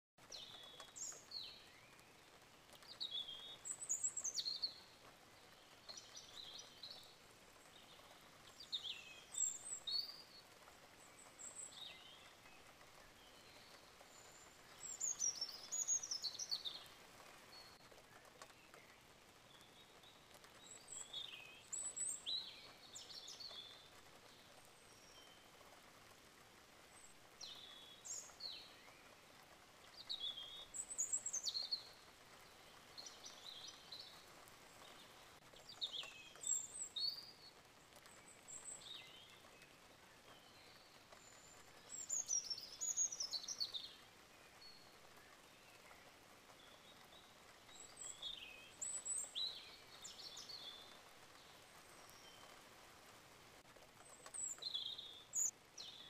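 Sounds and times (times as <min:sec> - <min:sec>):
faint steady hiss: 0:00.2 - 0:56.0.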